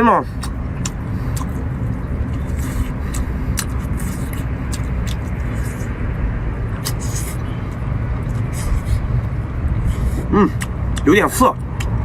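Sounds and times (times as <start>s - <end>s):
low rumble: 0.0s - 12.0s
person chewing: 0.3s - 6.1s, 6.7s - 12.0s.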